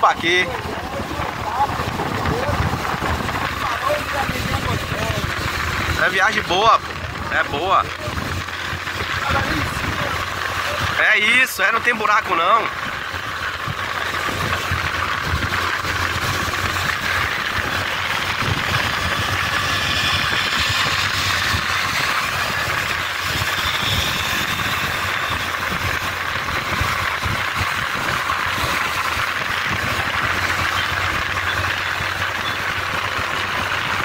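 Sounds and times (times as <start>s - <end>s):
motorcycle engine running: 0.0s - 34.0s
wind rushing over microphone: 0.0s - 34.0s.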